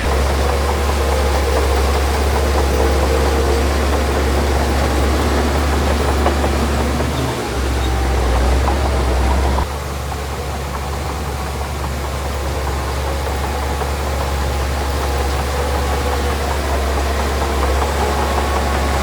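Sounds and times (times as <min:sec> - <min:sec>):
heavy diesel engine rumbling: 0:00.0 - 0:19.0.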